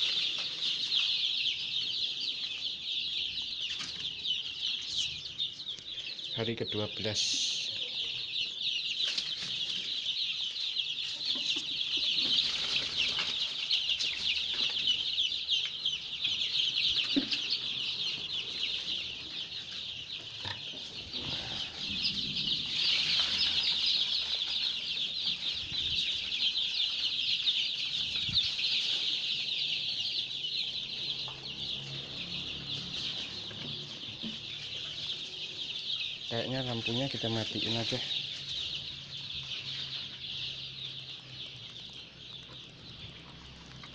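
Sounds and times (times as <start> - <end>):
chicks peeping: 0.0 - 43.9.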